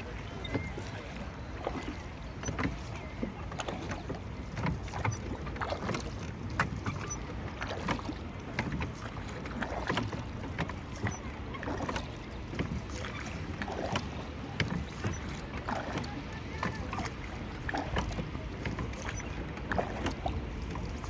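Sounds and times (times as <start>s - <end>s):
water splashing around boat: 0.0s - 21.0s.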